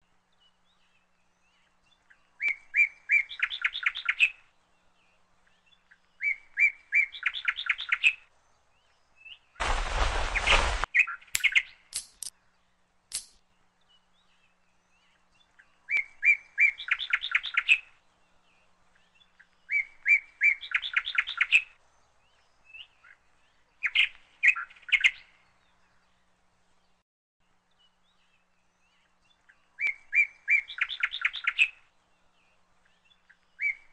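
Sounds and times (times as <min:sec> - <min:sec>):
bird chirping: 0:00.3 - 0:26.3, 0:27.6 - 0:33.9.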